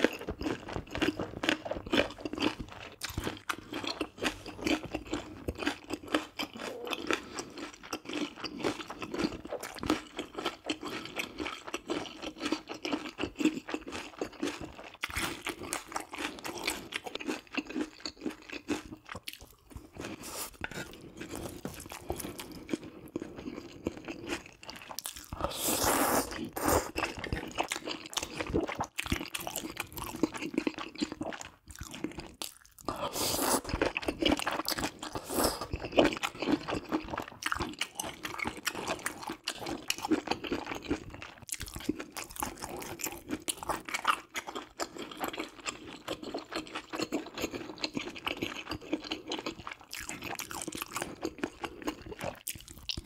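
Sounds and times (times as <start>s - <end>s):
person chewing and eating: 0.0s - 53.0s.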